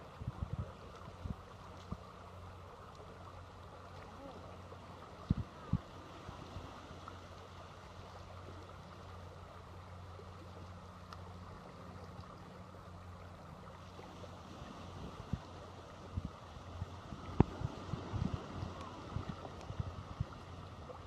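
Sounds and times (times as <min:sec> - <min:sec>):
hiss of shore water: 0:00.0 - 0:21.0
low steady hum: 0:00.0 - 0:21.0
wind: 0:00.0 - 0:21.0.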